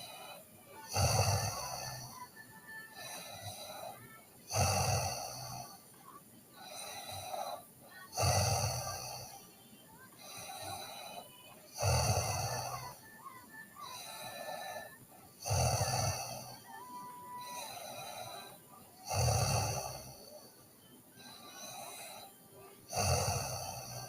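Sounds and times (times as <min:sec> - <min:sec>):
girl snoring: 0:00.0 - 0:24.0.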